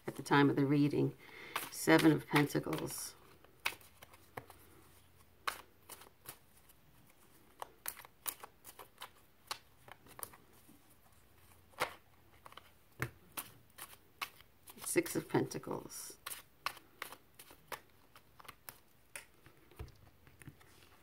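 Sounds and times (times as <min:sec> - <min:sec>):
cards being shuffled: 0:01.4 - 0:21.0.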